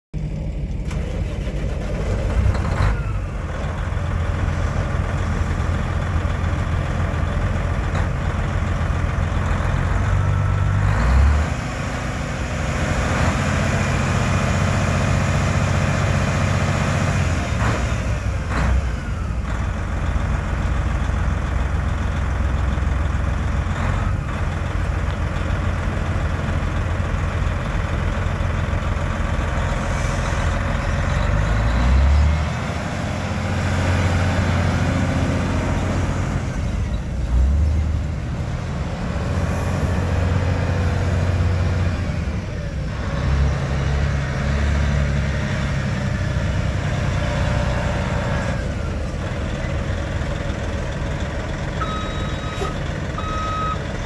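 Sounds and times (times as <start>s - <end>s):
diesel engine idling: 0.2s - 12.8s, 13.5s - 44.6s, 45.2s - 54.0s.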